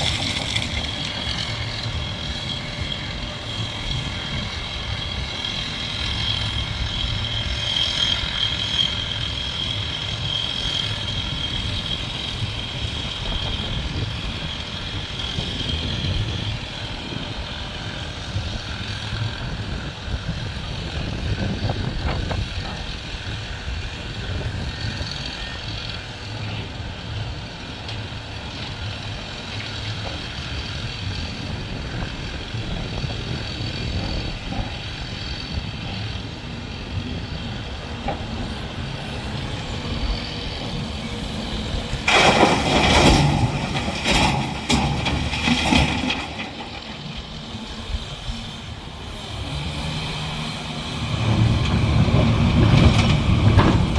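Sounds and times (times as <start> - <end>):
diesel machinery engine rumbling: 0.0 - 53.9.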